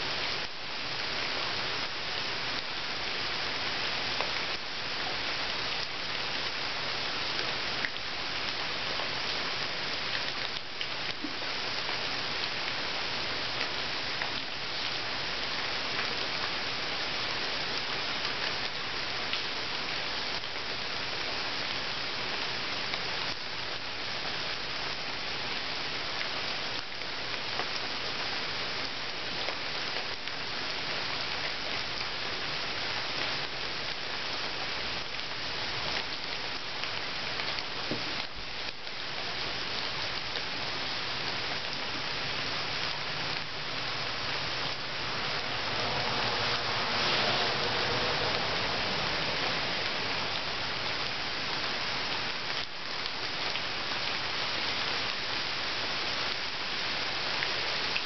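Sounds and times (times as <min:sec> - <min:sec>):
rain falling into pool: 0:00.0 - 0:58.0.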